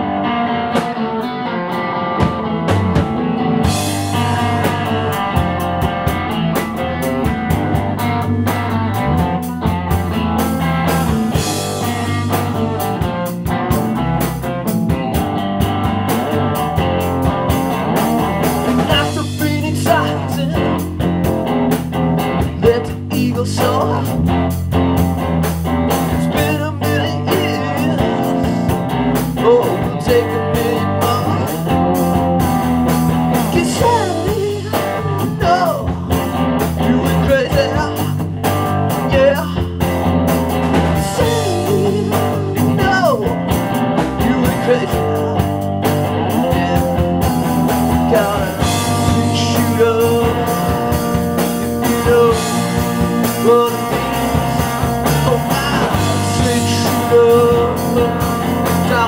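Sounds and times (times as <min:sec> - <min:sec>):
drum kit: 0:00.0 - 0:59.0
electric bass: 0:00.0 - 0:59.0
electric guitar: 0:00.0 - 0:59.0.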